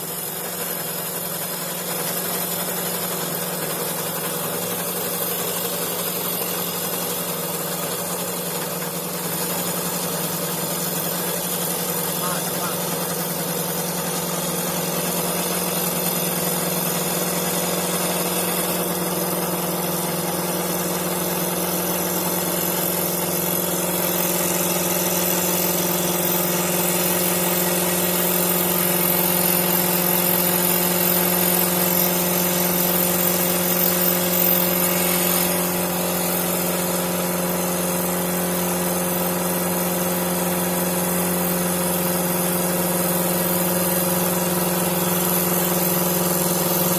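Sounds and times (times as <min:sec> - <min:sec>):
lathe motor hum: 0:00.0 - 0:46.9.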